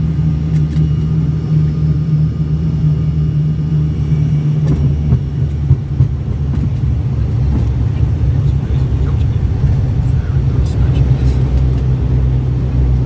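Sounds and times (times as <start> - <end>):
turboprop engine drone in cabin: 0.0 - 13.0.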